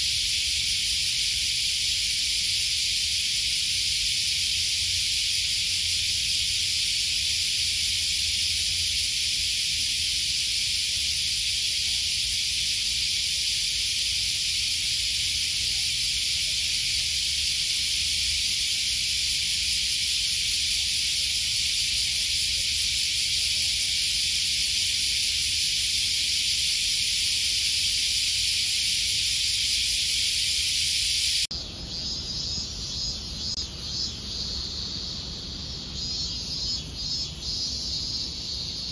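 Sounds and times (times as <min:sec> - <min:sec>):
cicadas buzzing in chorus: 0:00.0 - 0:38.9.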